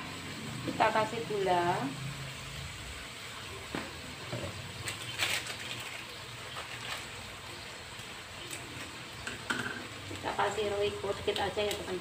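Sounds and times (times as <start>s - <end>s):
faint sizzle with pops: 0.0s - 12.0s
sauce simmering in a wok: 0.0s - 12.0s.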